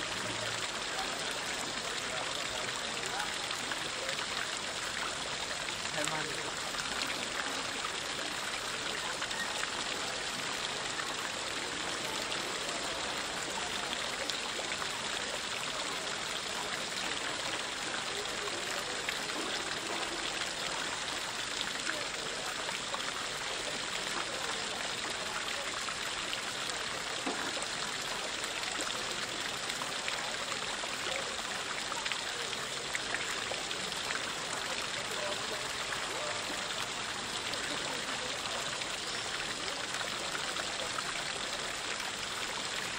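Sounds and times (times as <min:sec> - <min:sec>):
fountain water splashing into basin: 0:00.0 - 0:42.9.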